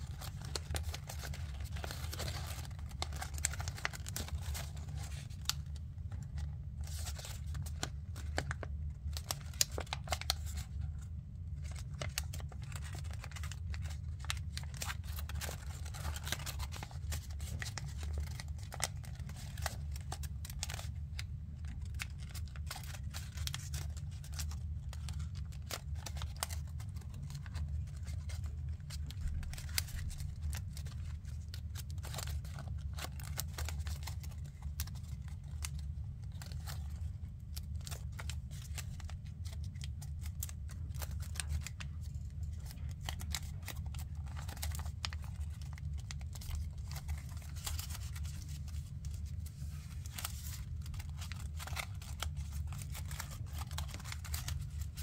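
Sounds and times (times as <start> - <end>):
paper crinkling: 0.0 - 55.0.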